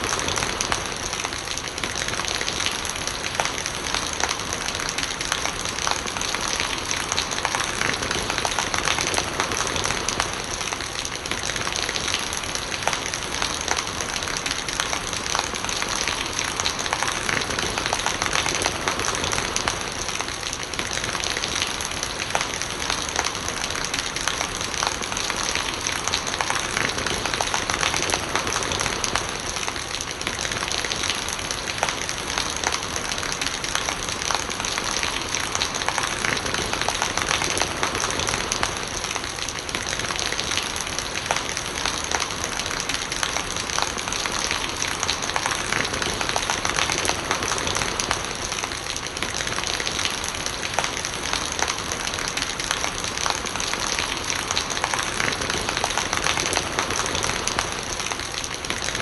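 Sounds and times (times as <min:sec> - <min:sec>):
rain drops ticking on surfaces: 0:00.0 - 0:59.0
rainwater gurgling: 0:00.0 - 0:59.0.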